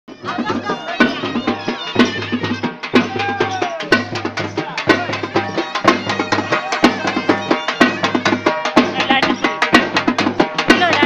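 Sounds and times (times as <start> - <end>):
frame drums playing: 0.1 - 11.0.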